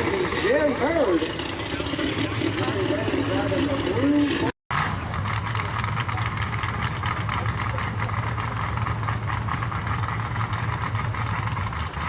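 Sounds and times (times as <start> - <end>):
drag-race car engine idling: 0.0 - 12.0.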